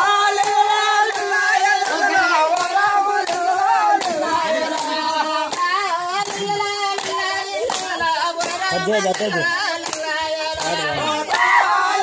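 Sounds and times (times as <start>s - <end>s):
hand claps keeping time: 0.0s - 12.0s
voices singing a folk song: 0.0s - 12.0s.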